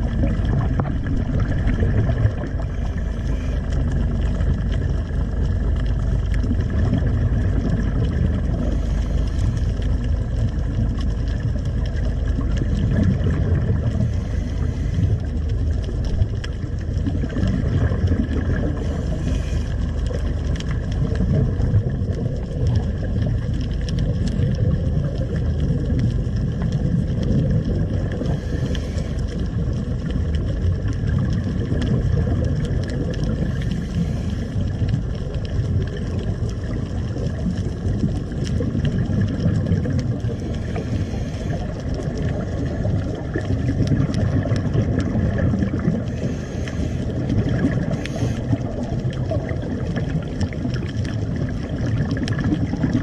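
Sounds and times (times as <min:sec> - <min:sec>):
faint boat engine drone: 0:00.0 - 0:53.0
low underwater rumble: 0:00.0 - 0:53.0
regulator bubbles: 0:00.0 - 0:53.0.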